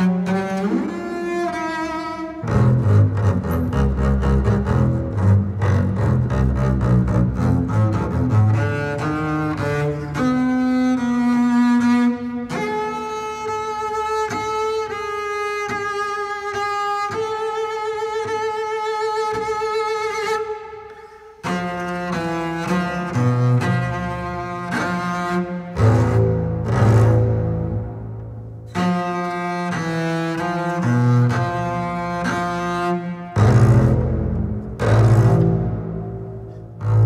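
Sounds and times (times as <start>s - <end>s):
bowed double bass: 0.0s - 37.0s.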